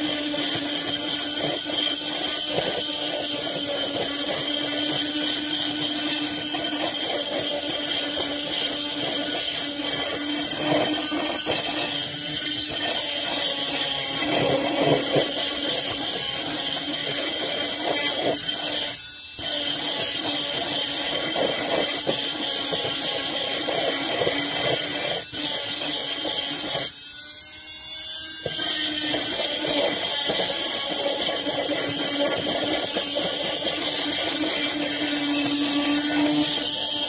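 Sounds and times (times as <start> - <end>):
multi-tool grinding steel: 0.0 - 37.0.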